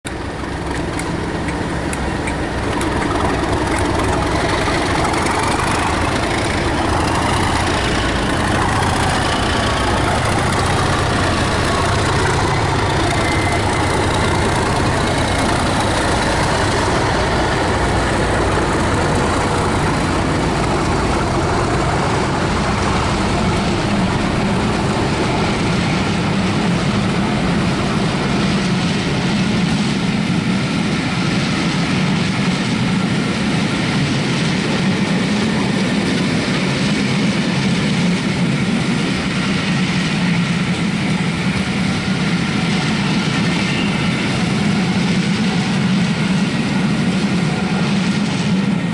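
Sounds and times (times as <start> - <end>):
diesel locomotive engines running: 0.0 - 48.9
train coaches rolling past: 0.1 - 48.9.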